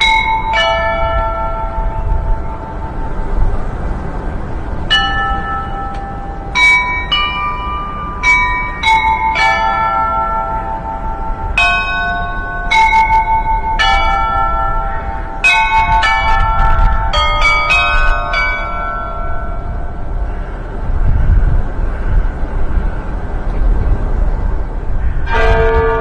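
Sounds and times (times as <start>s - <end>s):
steady low rumble: 0.0s - 9.1s, 10.4s - 26.0s
bells ringing: 0.0s - 21.1s, 24.4s - 26.0s.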